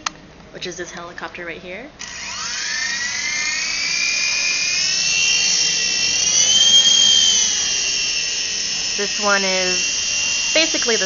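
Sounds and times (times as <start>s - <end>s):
toy helicopter rotors whining: 2.0s - 11.0s.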